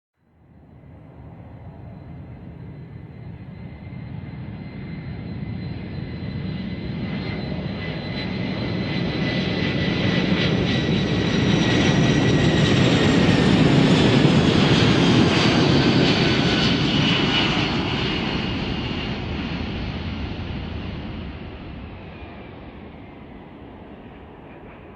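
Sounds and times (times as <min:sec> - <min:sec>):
jet engines roaring: 0:00.7 - 0:24.9.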